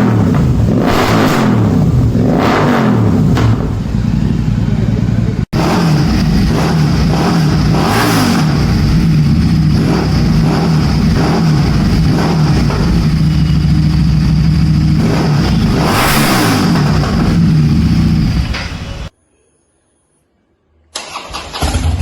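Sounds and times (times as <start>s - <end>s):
motorcycle engine idling and revving: 0.0s - 19.1s, 21.1s - 22.0s.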